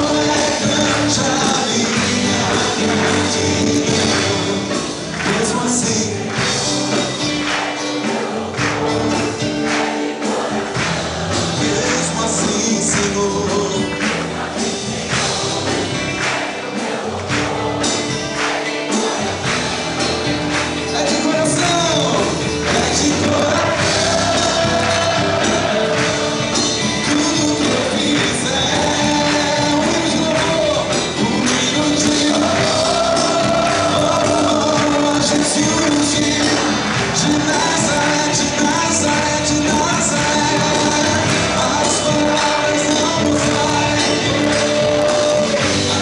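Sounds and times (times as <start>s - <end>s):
person singing: 0.0s - 7.2s, 7.8s - 46.0s
live worship band playing: 0.0s - 46.0s.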